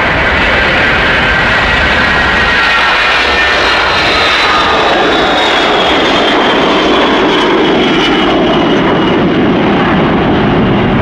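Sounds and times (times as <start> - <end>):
high engine whine: 0.0 - 11.0
jet engines roaring: 0.0 - 11.0.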